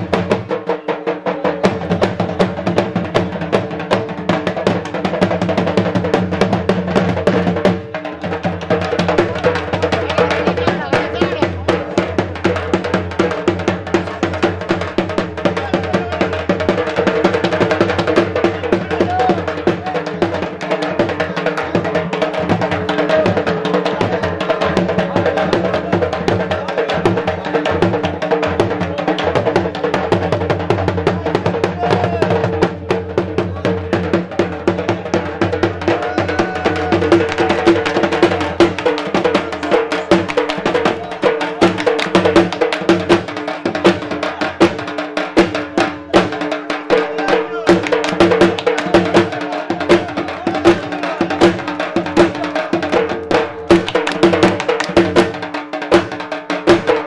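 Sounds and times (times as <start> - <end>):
barrel drum beaten with sticks: 0.0 - 57.0.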